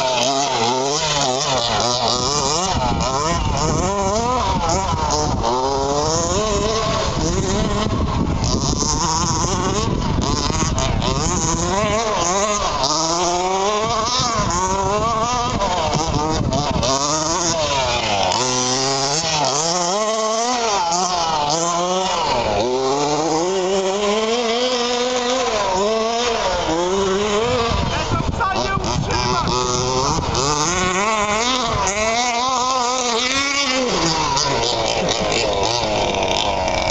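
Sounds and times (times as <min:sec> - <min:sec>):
rc car two-stroke engines revving: 0:00.0 - 0:36.9.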